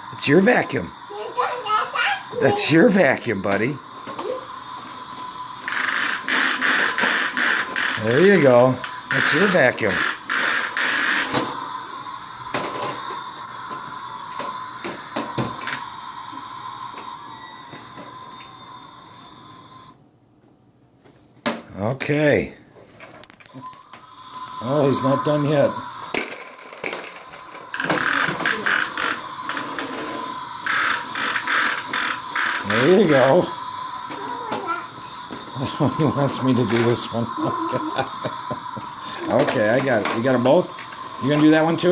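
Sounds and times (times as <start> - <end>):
hissing burst: 0.0 - 20.0, 23.6 - 41.9
vacuum cleaner whining: 0.0 - 20.0, 23.5 - 41.9.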